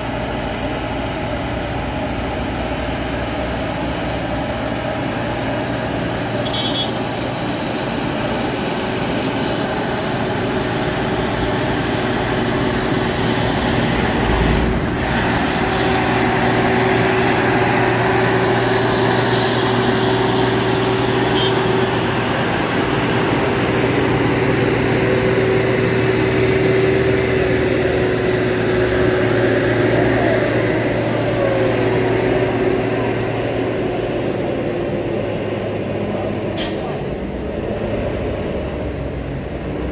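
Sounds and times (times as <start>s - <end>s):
road traffic noise: 0.0s - 39.9s
truck engines running: 0.0s - 39.9s.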